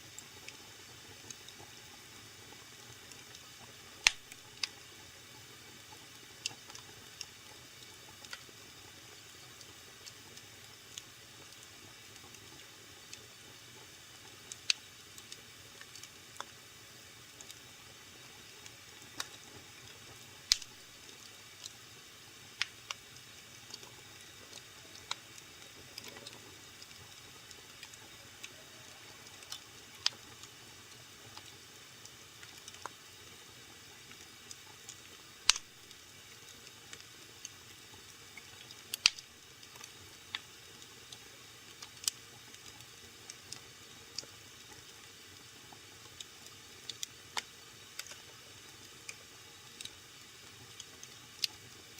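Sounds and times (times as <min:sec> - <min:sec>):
faint steady hiss: 0:00.0 - 0:51.9
wood fire crackling and popping: 0:02.4 - 0:21.8, 0:22.4 - 0:51.9.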